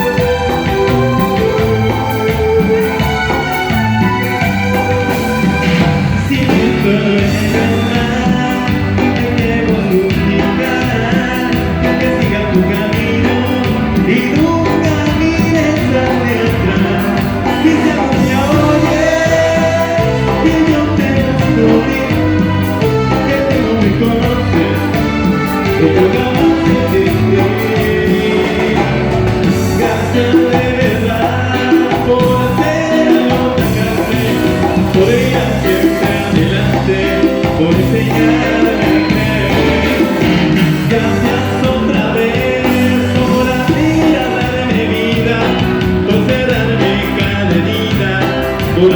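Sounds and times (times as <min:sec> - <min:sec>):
live band music: 0:00.0 - 0:48.9.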